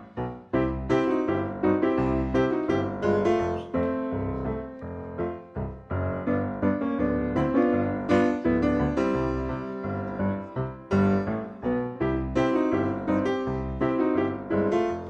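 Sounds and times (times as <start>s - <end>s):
bright piano tune: 0.0s - 15.0s.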